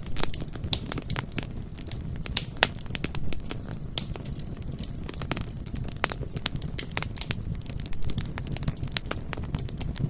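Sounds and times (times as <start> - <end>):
bonfire crackling and popping: 0.0 - 10.0
low rumble of flames: 0.0 - 10.0.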